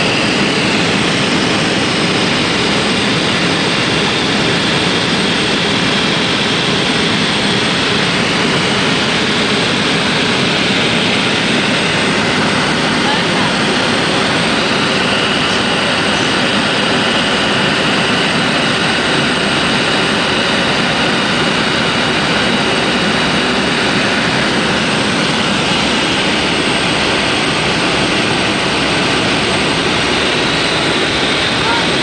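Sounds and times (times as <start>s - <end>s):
airflow noise: 0.0s - 32.0s
propeller aircraft engine drone: 0.0s - 32.0s.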